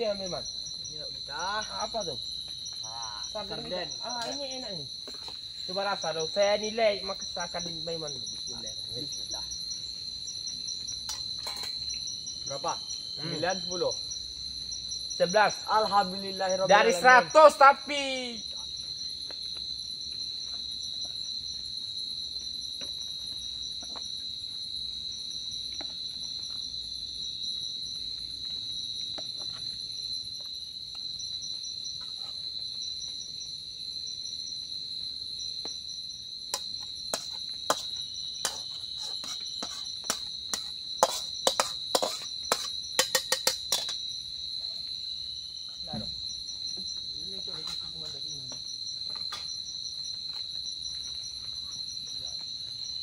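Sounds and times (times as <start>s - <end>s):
shrill chorus of night insects: 0.0s - 53.0s.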